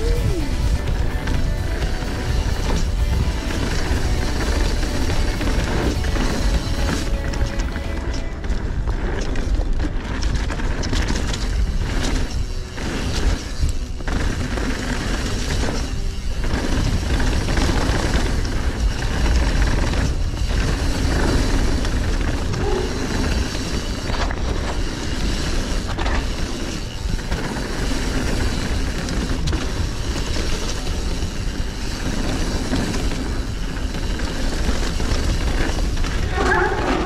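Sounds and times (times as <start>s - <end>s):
bike clacking over bumps: 0.0s - 37.0s
tyres on loose gravel: 0.0s - 37.0s
wind rush on microphone: 0.0s - 37.0s.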